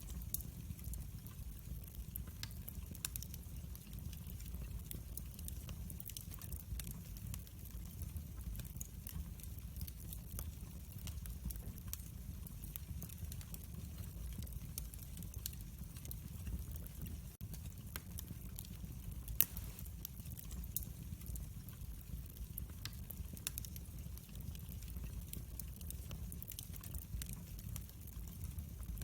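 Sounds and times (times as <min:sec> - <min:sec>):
fire crackling and popping: 0:00.0 - 0:29.0
low fire rumble: 0:00.0 - 0:29.0.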